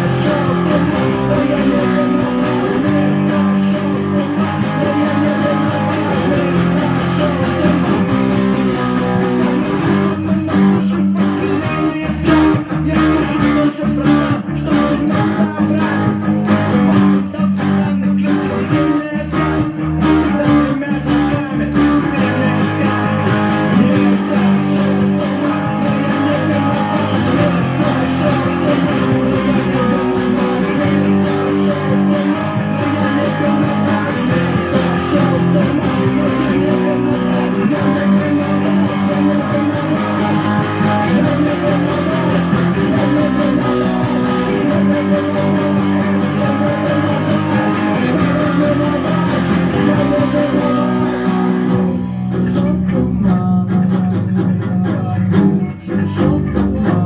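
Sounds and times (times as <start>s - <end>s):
guitar playing: 0.0s - 57.0s.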